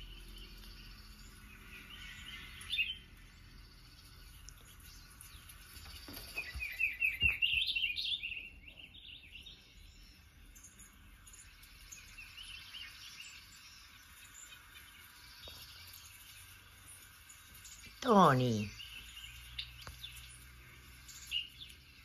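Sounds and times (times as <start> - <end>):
songbird chirping through speakers: 0.0 - 22.0.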